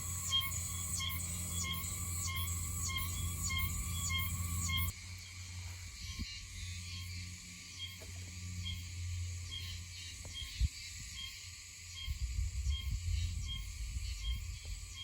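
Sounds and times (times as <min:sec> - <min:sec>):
insect chorus hiss: 0:00.0 - 0:15.0.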